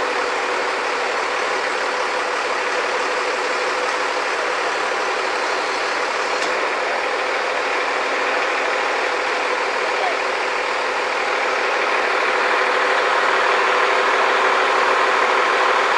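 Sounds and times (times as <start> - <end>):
heavy machinery engine droning: 0.0 - 15.9.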